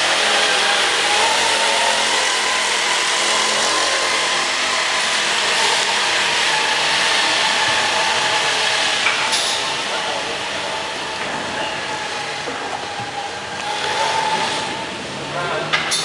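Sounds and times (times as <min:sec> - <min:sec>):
motor hissing rush: 0:00.0 - 0:16.0.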